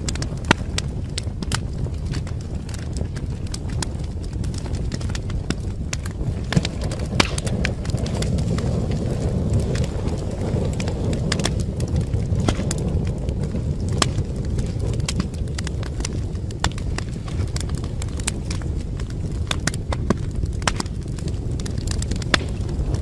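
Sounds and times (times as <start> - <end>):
low rush of flame: 0.0 - 23.0
wood crackling and popping: 0.0 - 23.0.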